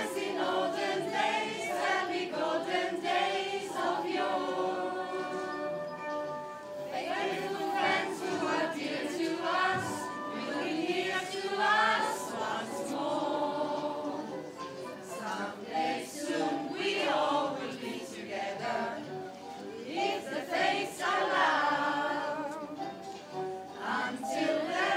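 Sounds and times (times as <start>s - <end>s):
group singing a carol: 0.0s - 24.9s.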